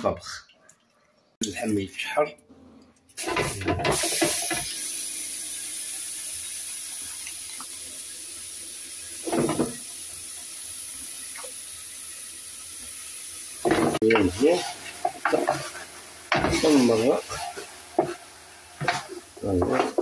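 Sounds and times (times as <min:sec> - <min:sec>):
meat searing in hot pot: 0:03.2 - 0:20.0.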